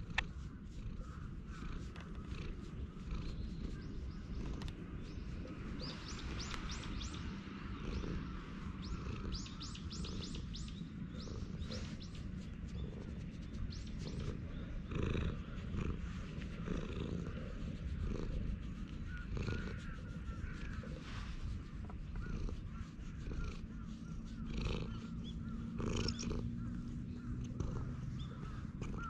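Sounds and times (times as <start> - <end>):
birds chirping: 0.0 - 29.0
cat purring: 0.0 - 29.0
rustle: 0.0 - 29.0.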